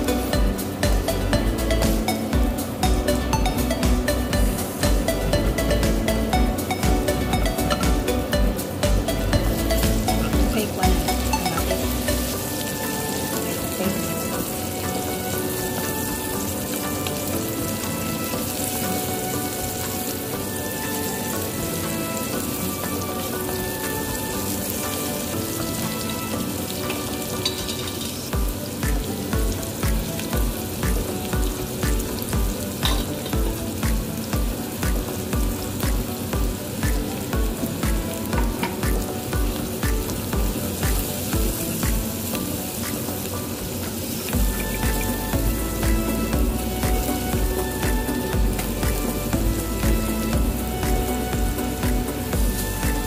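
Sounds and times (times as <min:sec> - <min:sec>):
low steady beat: 0:00.0 - 0:23.0, 0:28.3 - 0:53.0
background music: 0:00.0 - 0:53.0
onions sizzling in oil: 0:00.0 - 0:53.0.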